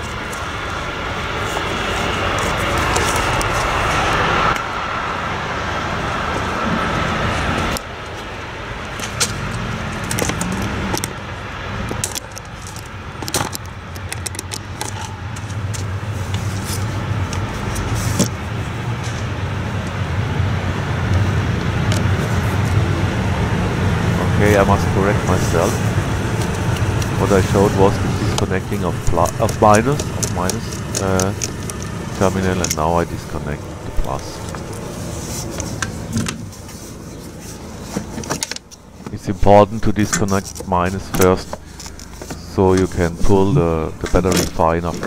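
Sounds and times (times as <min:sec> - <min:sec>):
low traffic rumble: 0:00.0 - 0:45.0.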